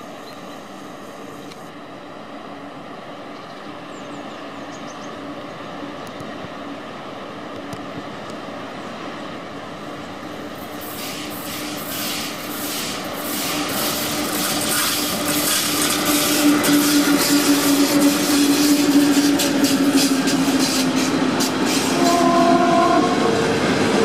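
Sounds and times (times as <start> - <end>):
electric locomotive hum: 0.0 - 24.0.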